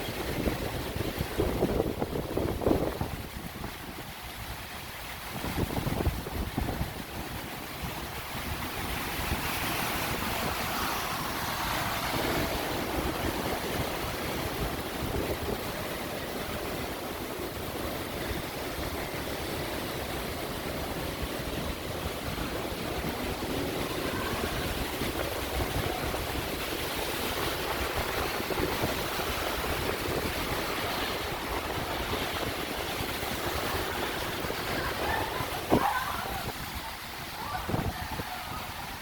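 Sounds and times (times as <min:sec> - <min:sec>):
heavy rain: 0:00.0 - 0:39.0
wind: 0:00.0 - 0:39.0.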